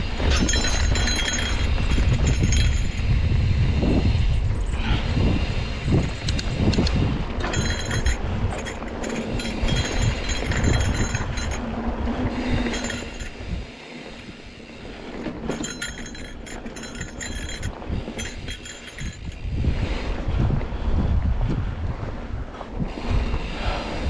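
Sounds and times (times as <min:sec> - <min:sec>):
bike tyres rumbling over dirt: 0:00.0 - 0:24.0
wind on microphone: 0:00.0 - 0:24.0
bicycle freehub clicking: 0:00.1 - 0:20.2.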